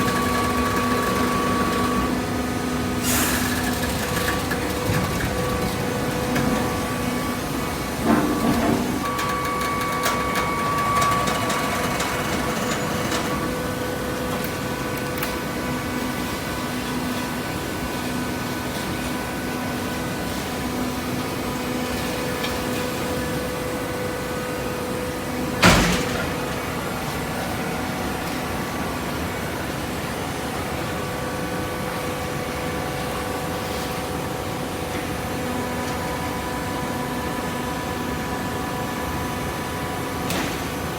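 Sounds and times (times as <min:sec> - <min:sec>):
hydraulic baler humming: 0:00.0 - 0:40.9.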